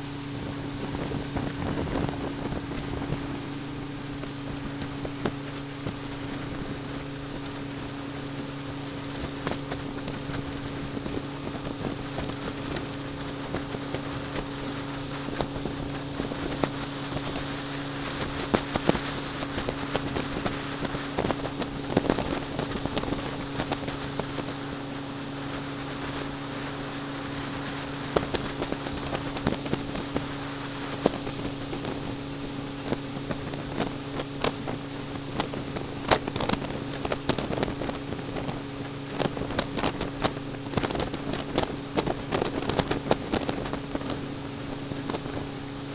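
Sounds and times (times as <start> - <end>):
boat engine humming: 0.0 - 45.9
wind on microphone: 0.0 - 45.9.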